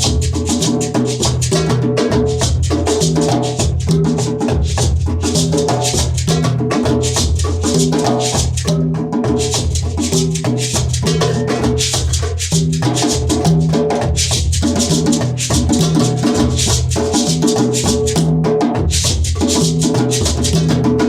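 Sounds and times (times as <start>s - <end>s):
shaker and drum percussion: 0.0s - 21.0s.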